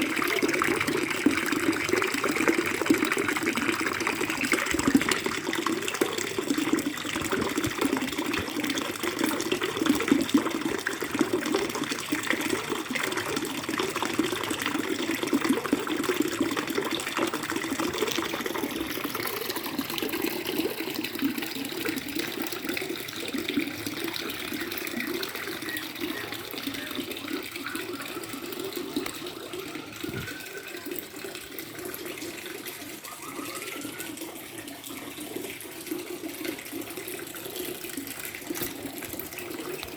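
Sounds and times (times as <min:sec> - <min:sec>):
trickling gurgling water: 0:00.0 - 0:39.9.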